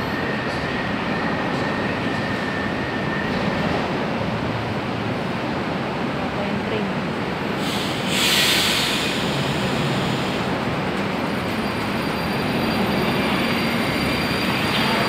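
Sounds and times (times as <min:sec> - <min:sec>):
metro train running: 0:00.0 - 0:15.0.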